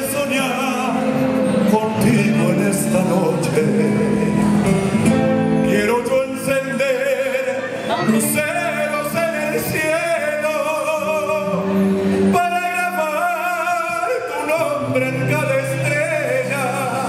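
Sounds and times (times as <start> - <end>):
folk band playing: 0.0 - 17.0
man singing: 0.0 - 17.0.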